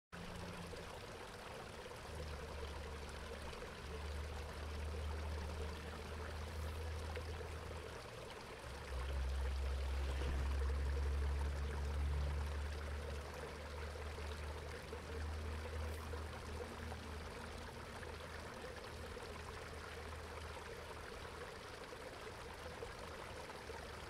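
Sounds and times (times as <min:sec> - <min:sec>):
water rushing from pipe: 0:00.2 - 0:24.0.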